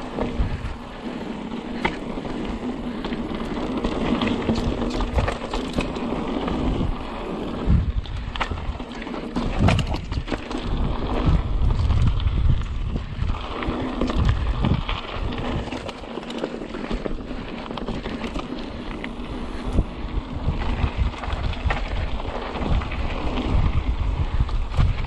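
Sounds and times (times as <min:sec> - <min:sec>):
wind buffeting microphone: 0:00.0 - 0:16.1, 0:16.7 - 0:25.0
bike knocking and rattling: 0:00.0 - 0:25.0
bike tyre noise on dirt: 0:00.0 - 0:25.0.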